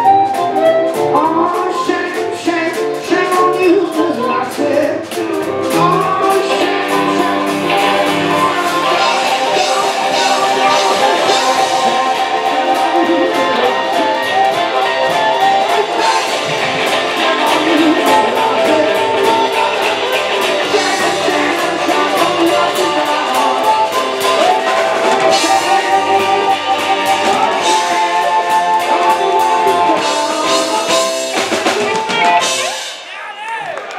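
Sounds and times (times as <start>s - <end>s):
upright double bass: 0.0s - 32.5s
electric guitar: 0.0s - 33.1s
drum kit beat: 0.0s - 33.2s
live rock and roll band: 0.0s - 33.9s.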